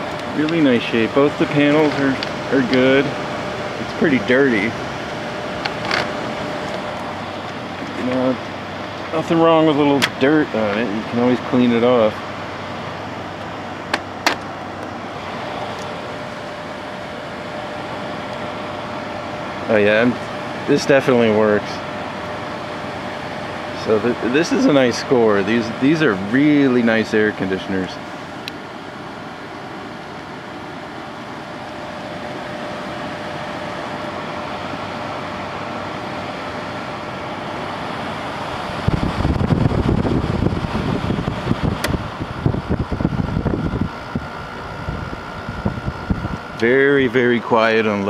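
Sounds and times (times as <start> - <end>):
air conditioner humming: 0.0 - 48.0.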